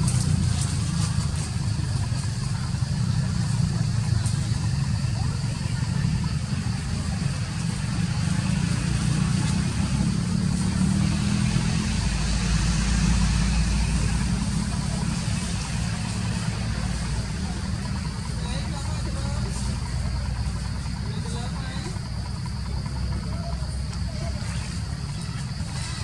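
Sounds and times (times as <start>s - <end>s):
constant hiss: 0.0s - 26.0s
engine idling rumble: 0.0s - 26.0s.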